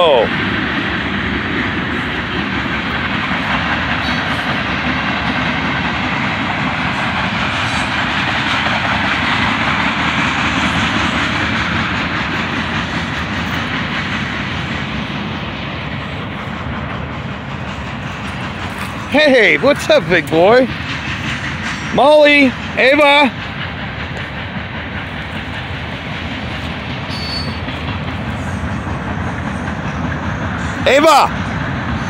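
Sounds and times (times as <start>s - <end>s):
freight train rolling past: 0.0s - 32.0s.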